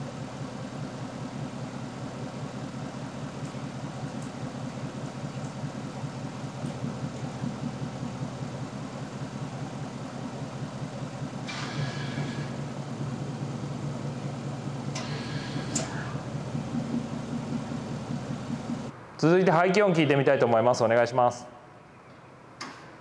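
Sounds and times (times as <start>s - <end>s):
car engine idling: 0.0s - 19.1s.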